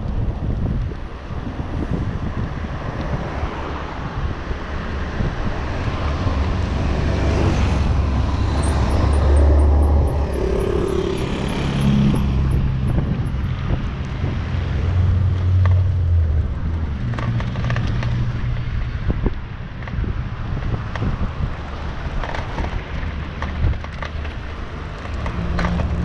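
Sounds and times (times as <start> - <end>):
bike road noise: 0.0 - 26.0
vehicle engine hum: 0.0 - 26.0
wind on microphone: 0.0 - 26.0.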